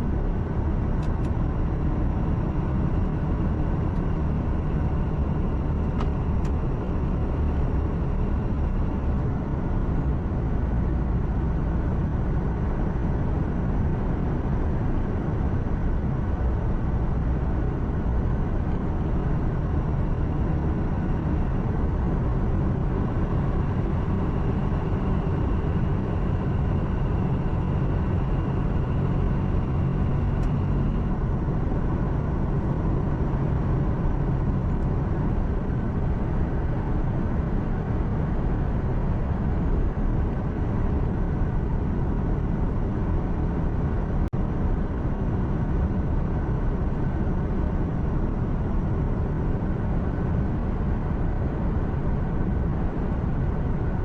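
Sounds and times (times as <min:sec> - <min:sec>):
road noise: 0:00.0 - 0:54.0
truck engine hum: 0:00.0 - 0:54.0.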